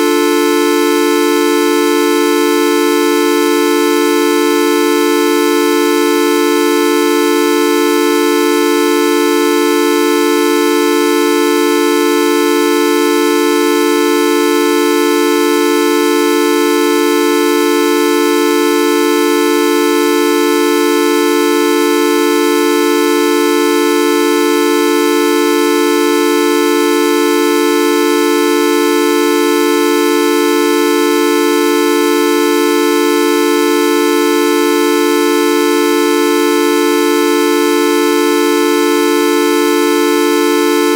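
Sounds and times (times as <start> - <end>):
loud steady horn-like tone: 0.0 - 40.9.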